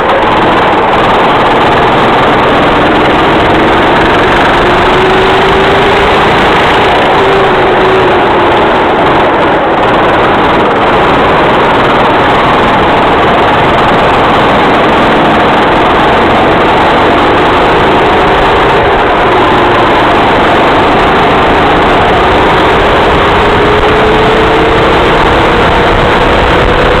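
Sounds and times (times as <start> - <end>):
racing kart engine: 0.0 - 27.0
rush of noise: 0.0 - 27.0.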